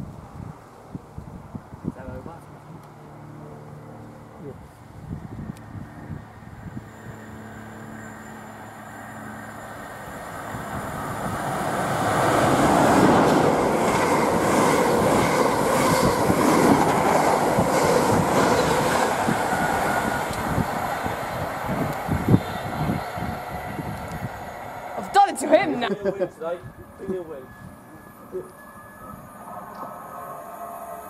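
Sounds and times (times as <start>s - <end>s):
train wheels rushing on rail: 6.0s - 31.0s.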